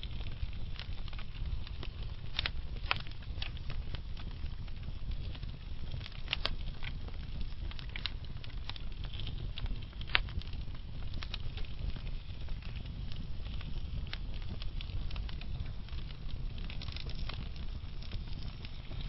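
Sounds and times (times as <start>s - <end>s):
sharp pops of fire: 0.0s - 19.0s
wood fire crackling: 0.0s - 19.0s.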